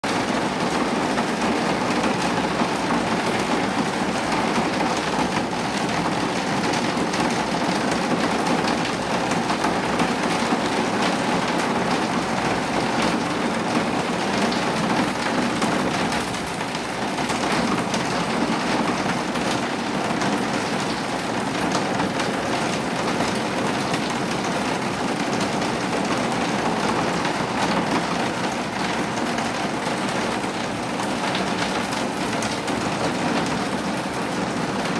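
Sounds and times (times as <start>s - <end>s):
heavy rain patter: 0.0s - 34.9s.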